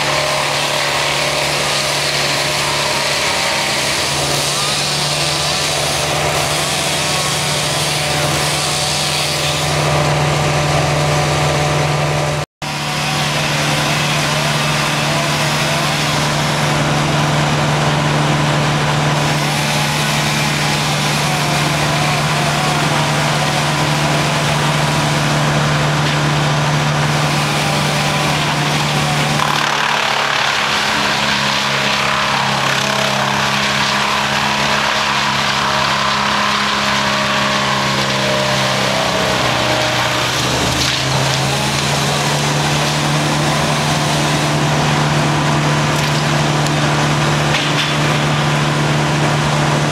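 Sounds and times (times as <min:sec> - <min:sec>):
wood chipper engine running: 0:00.0 - 0:49.9.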